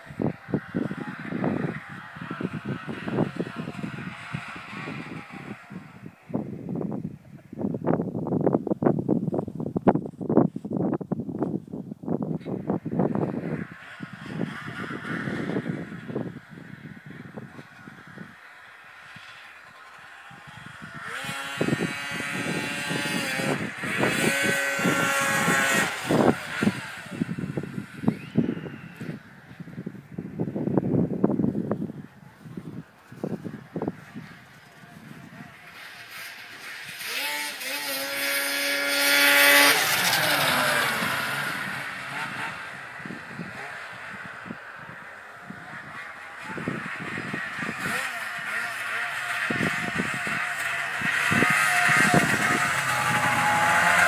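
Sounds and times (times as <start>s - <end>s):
snowmobile engine at high revs: 0.0s - 8.0s, 12.4s - 54.0s.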